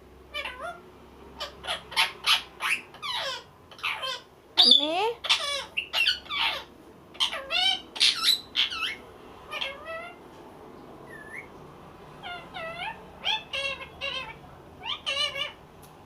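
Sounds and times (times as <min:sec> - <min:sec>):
parrot high-pitched calls: 0:00.3 - 0:10.2, 0:11.1 - 0:11.6, 0:12.2 - 0:15.6.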